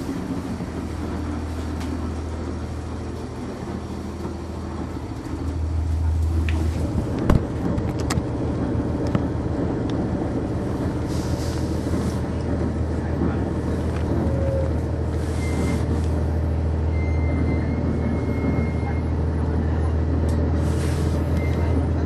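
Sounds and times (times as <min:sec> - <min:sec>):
diesel bus engine droning: 0:00.0 - 0:22.0.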